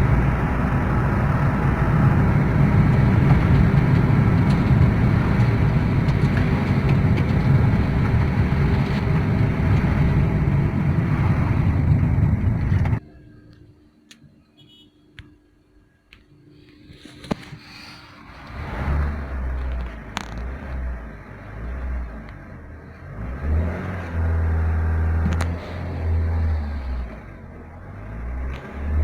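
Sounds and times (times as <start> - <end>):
car engine and road noise: 0.0 - 13.5, 16.8 - 29.0.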